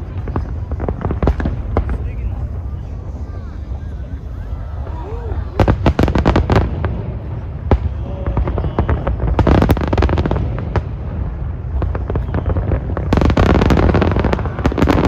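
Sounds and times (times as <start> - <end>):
fireworks booming: 0.0 - 15.0
fireworks cracks and crackles: 0.0 - 15.0.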